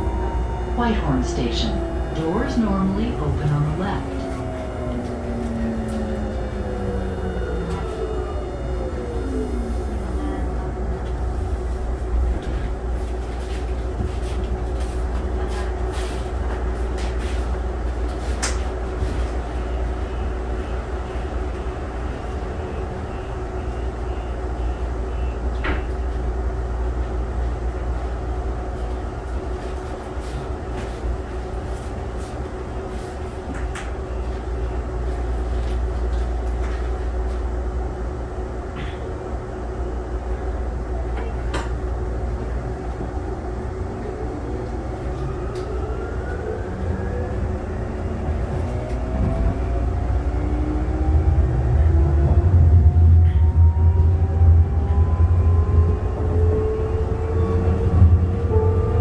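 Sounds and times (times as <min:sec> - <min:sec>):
equipment hum: 0:00.0 - 0:59.0.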